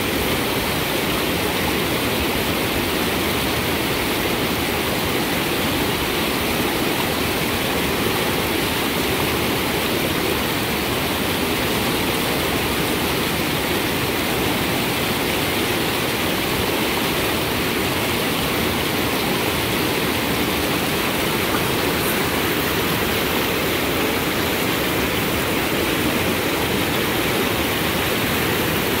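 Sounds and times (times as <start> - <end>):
river rapids rushing over boulders: 0.0 - 29.0.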